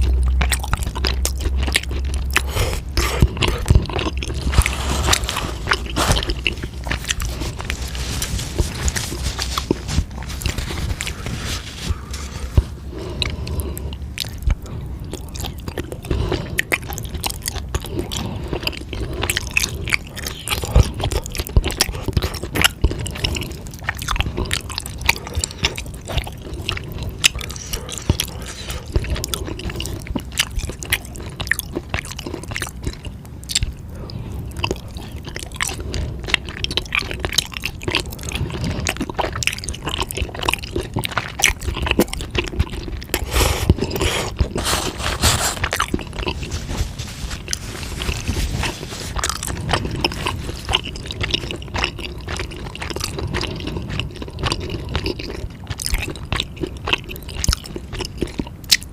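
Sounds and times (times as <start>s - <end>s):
crunchy chewing clicks: 0.0s - 58.9s
wet chewing mouth sounds: 0.0s - 58.9s.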